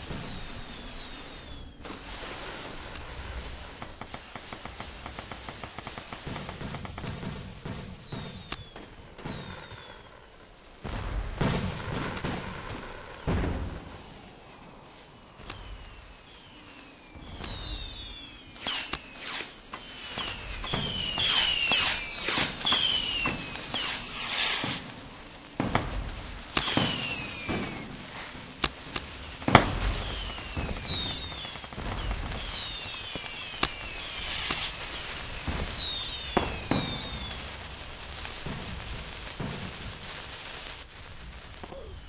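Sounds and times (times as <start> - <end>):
fireworks bangs and crackles: 0.0 - 42.0
fireworks whistling: 0.0 - 42.0.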